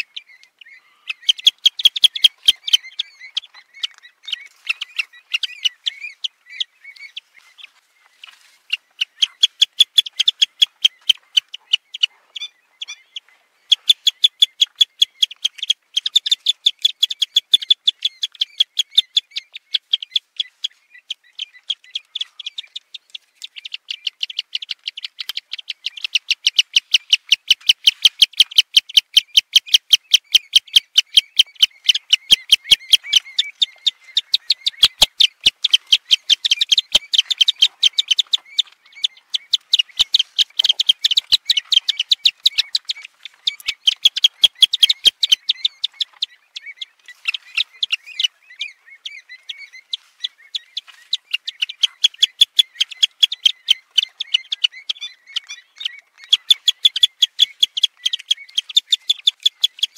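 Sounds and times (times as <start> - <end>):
short high bird calls: 0.0 - 59.9.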